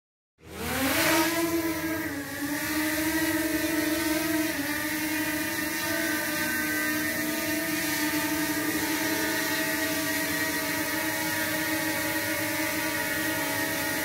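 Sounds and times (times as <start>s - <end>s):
drone propellers whining: 0.4s - 14.0s.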